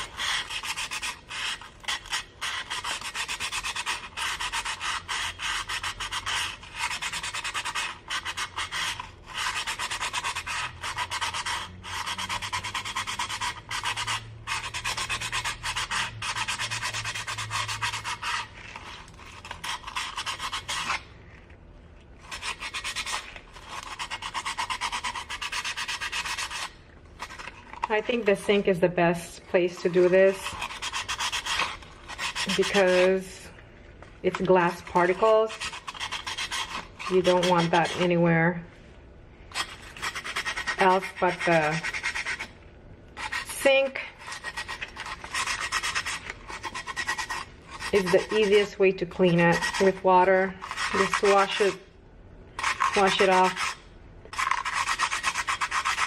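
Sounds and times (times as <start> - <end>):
sandpaper rasping on glass: 0.0 - 21.1, 22.2 - 28.5, 29.7 - 33.4, 34.3 - 38.2, 39.5 - 42.5, 43.2 - 51.8, 52.6 - 56.0.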